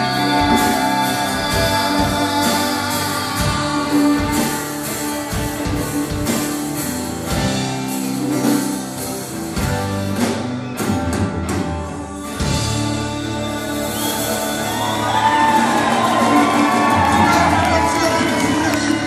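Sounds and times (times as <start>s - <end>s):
bass guitar: 0.0s - 19.0s
drum kit beat: 0.0s - 19.0s
electric guitars: 0.0s - 19.0s.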